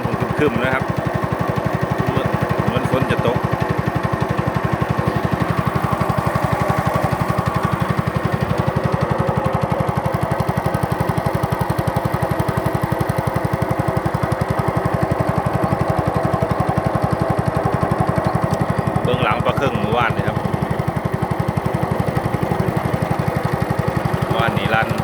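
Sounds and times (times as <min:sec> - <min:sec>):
small boat engine running: 0:00.0 - 0:25.0.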